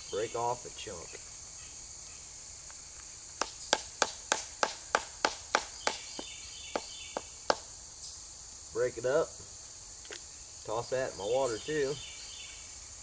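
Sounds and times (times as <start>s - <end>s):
insects humming: 0.0s - 13.0s.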